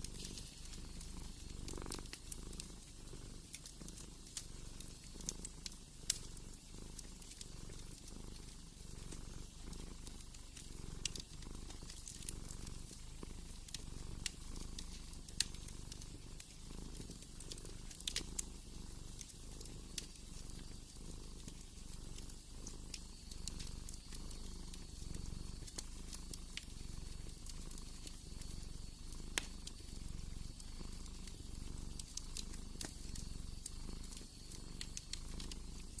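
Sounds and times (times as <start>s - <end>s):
cat purring: 0.0s - 36.0s
wood fire crackling and popping: 0.0s - 36.0s.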